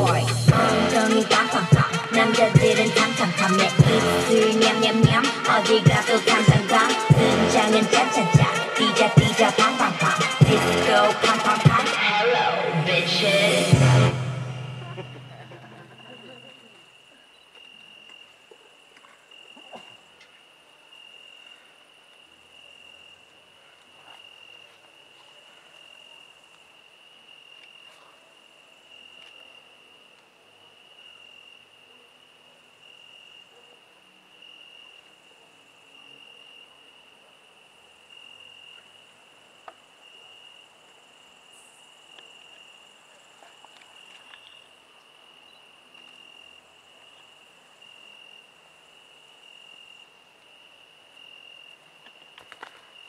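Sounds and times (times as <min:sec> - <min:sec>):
crickets chirping: 0:00.0 - 0:12.0, 0:14.4 - 0:53.0.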